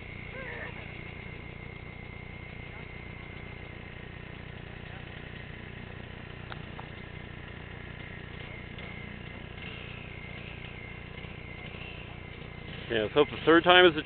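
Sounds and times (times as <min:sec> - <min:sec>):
distant dirt bike engine running: 0:00.0 - 0:14.0.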